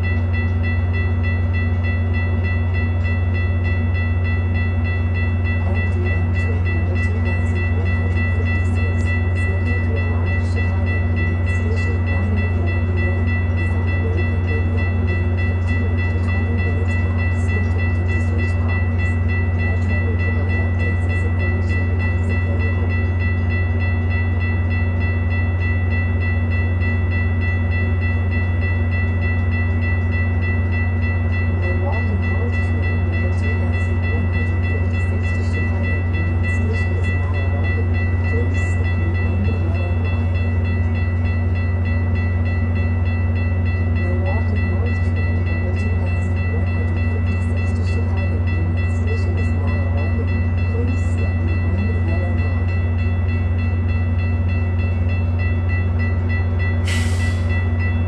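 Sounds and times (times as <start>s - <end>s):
diesel locomotive idling hum: 0.0s - 58.0s.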